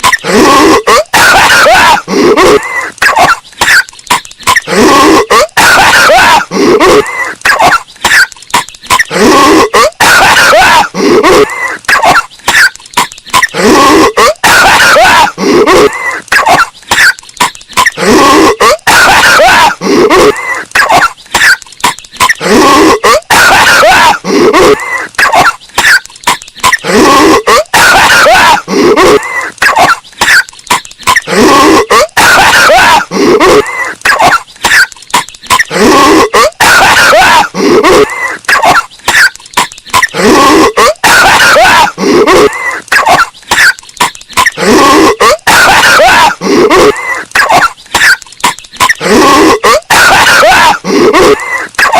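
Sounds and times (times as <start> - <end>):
distorted cartoon coughing: 0.0 - 51.9.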